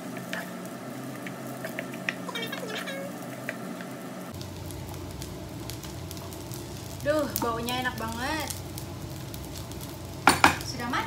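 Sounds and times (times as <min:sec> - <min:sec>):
rice sizzling in frying pan: 0:00.0 - 0:11.0.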